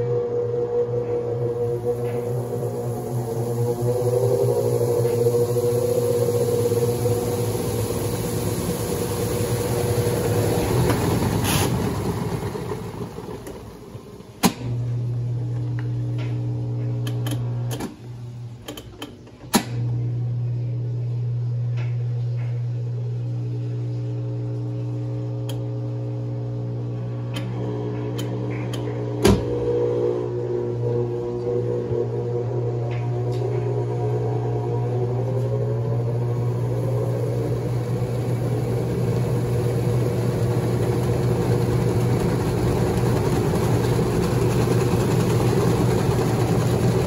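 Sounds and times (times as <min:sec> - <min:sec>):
washing machine motor hum: 0:00.0 - 0:47.0.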